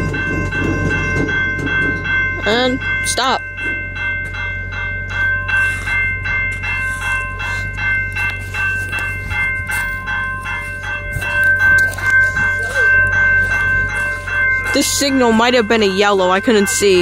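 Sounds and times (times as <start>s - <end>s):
railroad crossing bell ringing: 0.0s - 17.0s.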